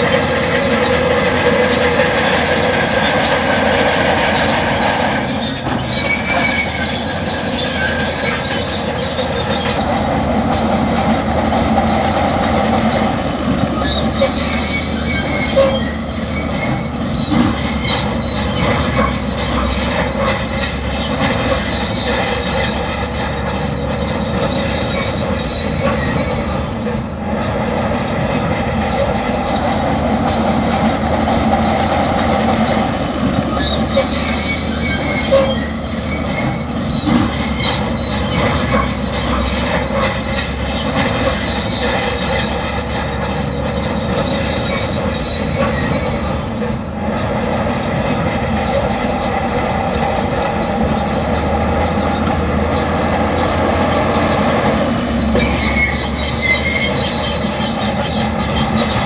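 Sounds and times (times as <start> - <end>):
diesel engine under load: 0.0 - 59.0
steel tracks clanking and squealing: 0.0 - 59.0.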